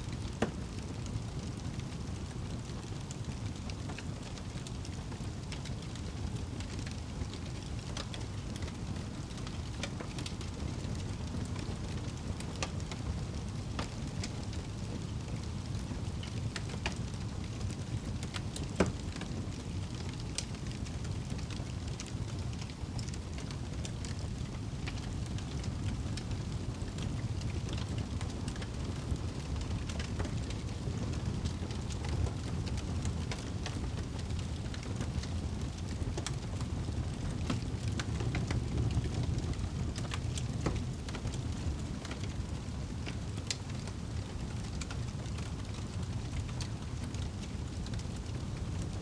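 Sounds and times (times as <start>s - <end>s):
fire crackles and pops: 0.0s - 49.0s
fire flames rumbling: 0.0s - 49.0s.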